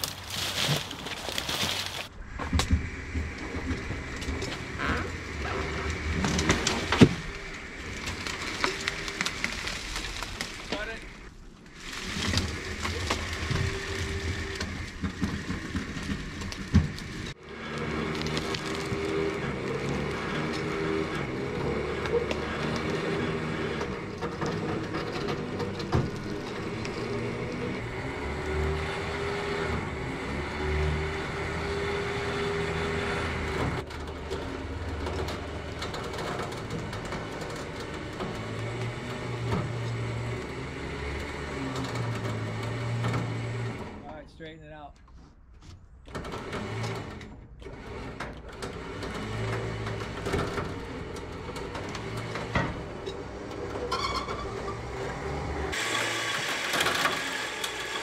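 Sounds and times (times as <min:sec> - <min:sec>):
car drawn over wooden boards: 0:00.0 - 0:44.2, 0:45.0 - 0:58.0.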